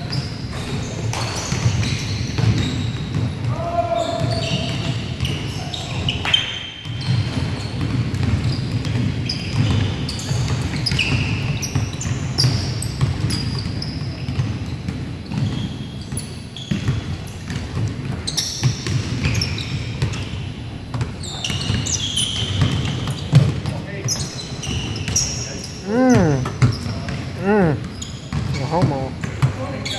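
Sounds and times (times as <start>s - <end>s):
sneakers squeaking on hardwood: 0.0s - 29.9s
basketball bouncing: 0.1s - 3.3s, 6.8s - 20.3s, 20.9s - 29.6s.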